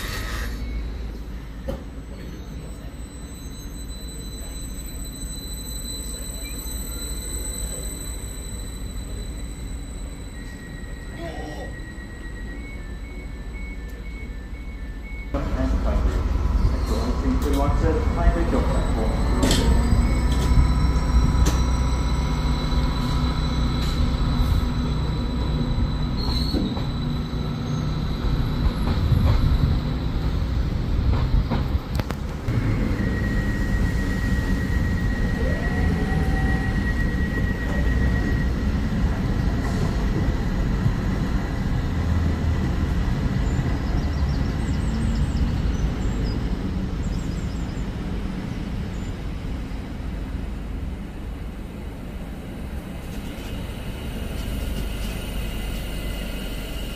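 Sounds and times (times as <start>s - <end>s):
train wheel squeal: 0.0s - 15.4s, 16.4s - 31.8s, 32.5s - 46.4s, 52.4s - 56.9s
train rumbling: 0.0s - 56.9s.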